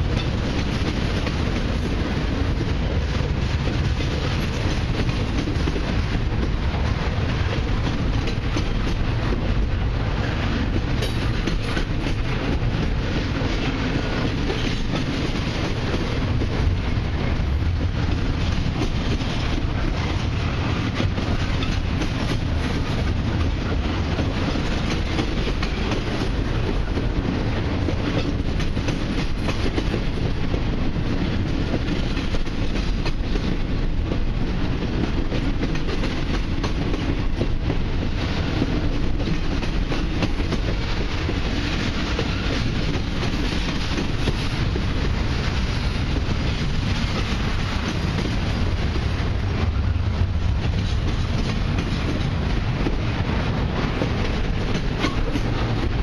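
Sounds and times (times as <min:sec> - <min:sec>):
freight train wheels rumbling: 0:00.0 - 0:56.0
wheels clickety-clack: 0:00.0 - 0:56.0.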